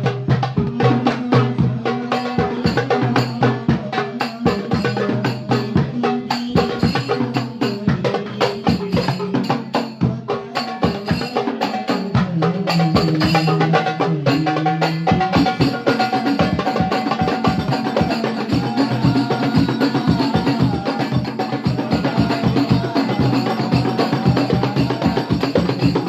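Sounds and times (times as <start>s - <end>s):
goblet drums playing fast rhythm: 0.0s - 26.0s.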